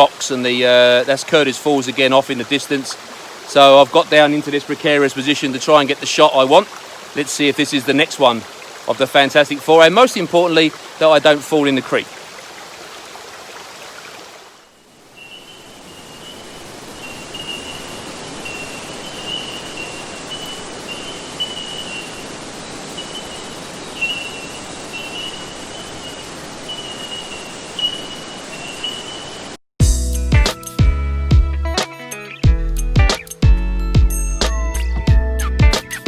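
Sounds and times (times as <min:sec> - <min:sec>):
creek water rushing: 0:00.0 - 0:29.5.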